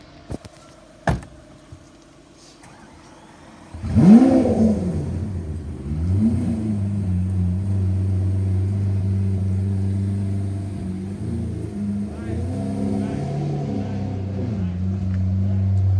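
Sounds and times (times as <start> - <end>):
car engine starting and idling: 0.0 - 15.9.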